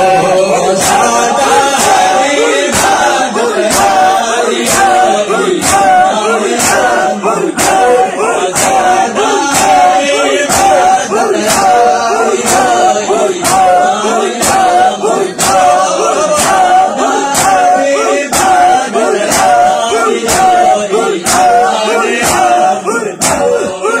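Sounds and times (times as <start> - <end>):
men chanting: 0.0 - 24.0.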